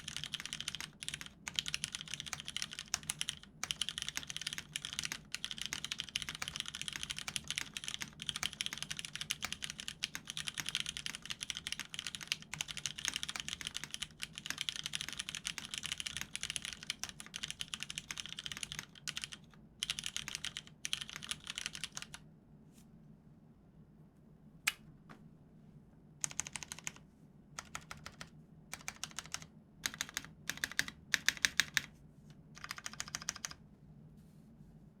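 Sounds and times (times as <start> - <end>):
typing on mechanical keyboard: 0.0 - 22.2, 26.2 - 27.0, 27.6 - 31.9, 32.5 - 33.6.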